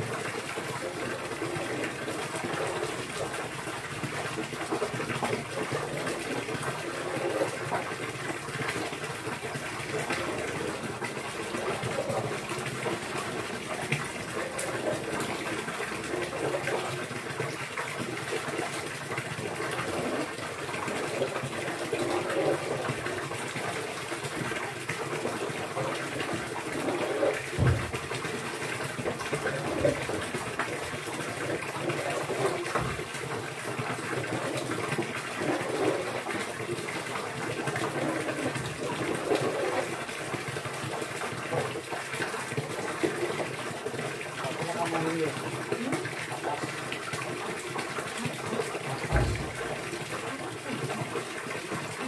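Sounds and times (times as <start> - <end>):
running splashing water: 0.0 - 52.0.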